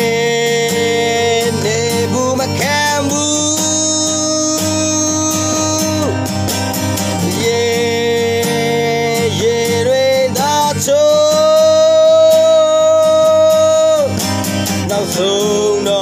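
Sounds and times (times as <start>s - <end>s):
acoustic guitar strumming: 0.0s - 16.0s
person singing: 0.0s - 16.0s.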